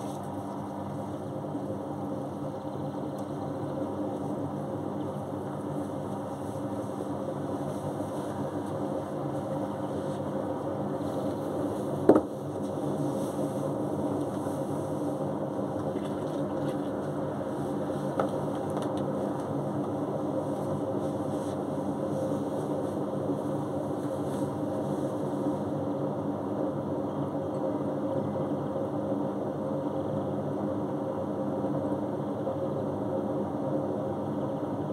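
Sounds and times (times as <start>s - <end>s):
washing machine motor hum: 0.0s - 34.9s.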